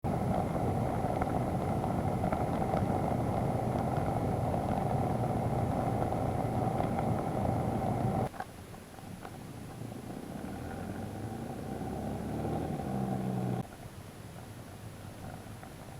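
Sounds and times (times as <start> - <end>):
motorcycle engine rumble: 0.0 - 15.9.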